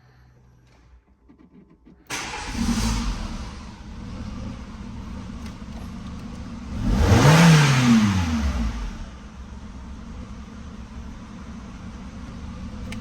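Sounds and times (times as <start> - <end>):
car engine starting and idling: 0.6 - 13.0
car engine revving: 2.1 - 13.0.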